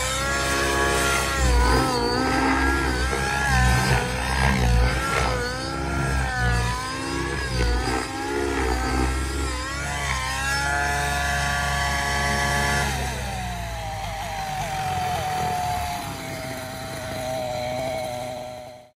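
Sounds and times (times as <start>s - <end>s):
model helicopter engine and rotor: 0.0s - 19.0s.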